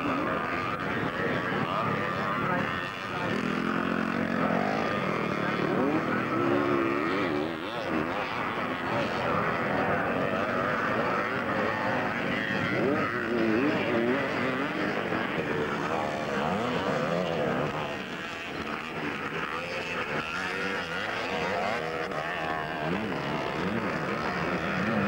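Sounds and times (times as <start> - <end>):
motocross bikes racing: 0.0 - 25.0.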